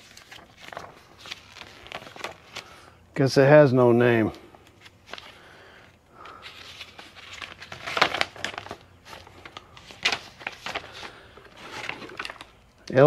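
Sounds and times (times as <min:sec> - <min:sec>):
paper rustling and crinkling: 0:00.0 - 0:02.9, 0:04.6 - 0:13.0.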